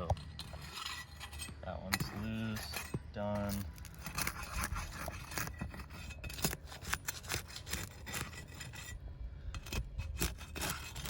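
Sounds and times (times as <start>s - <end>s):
hand tool scraping under shingles: 0.0s - 11.0s.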